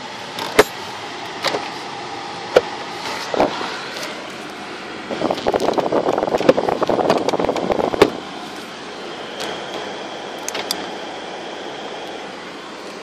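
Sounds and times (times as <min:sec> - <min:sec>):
car cabin hum: 0:00.0 - 0:13.0.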